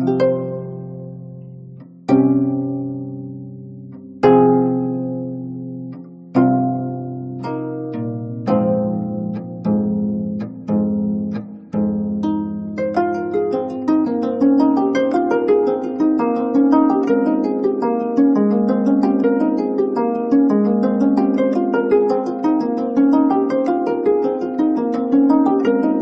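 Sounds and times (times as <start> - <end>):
plucked zither notes: 0.0 - 26.0.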